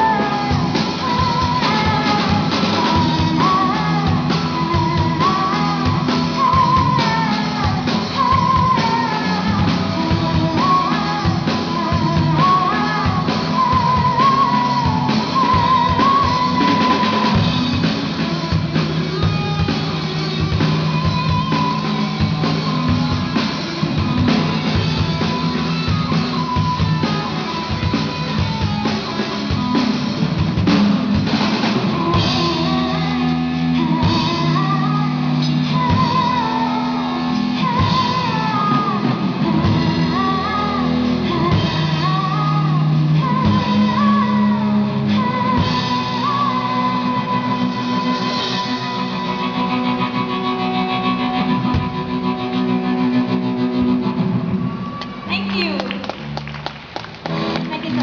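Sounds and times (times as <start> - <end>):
person singing: 0.0 - 30.0, 31.3 - 53.6
drum kit: 0.0 - 58.0
electric guitar: 0.0 - 58.0.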